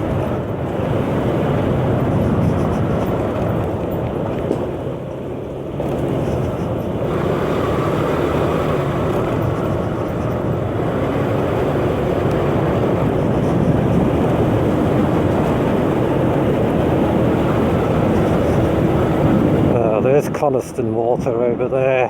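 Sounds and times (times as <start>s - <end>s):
motor scooter engine running: 0.0s - 20.1s
road noise: 0.0s - 22.0s.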